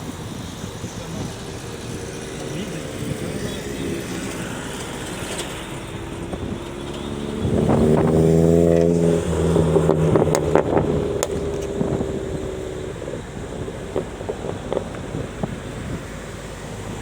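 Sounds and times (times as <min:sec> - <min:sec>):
pickup truck engine rumbling: 0:00.0 - 0:17.0.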